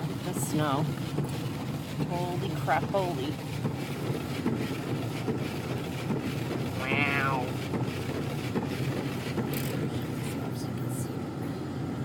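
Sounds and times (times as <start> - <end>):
car engine rumble from inside cabin: 0.0 - 12.0
tyres driving through snow: 0.0 - 12.0.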